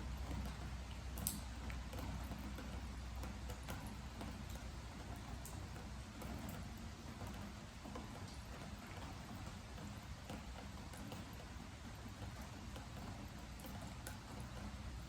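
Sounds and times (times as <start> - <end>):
drips ticking on wooden deck: 0.0 - 15.0
steady rain: 0.0 - 15.0.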